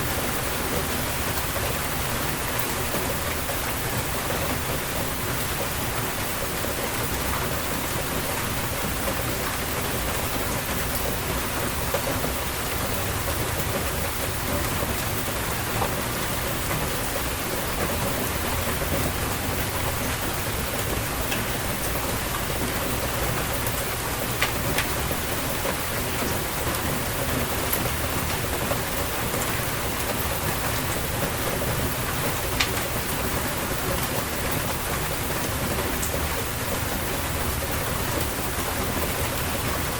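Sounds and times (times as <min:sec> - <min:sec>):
rain pattering on surfaces: 0:00.0 - 0:39.9
raindrops ticking: 0:00.1 - 0:39.9.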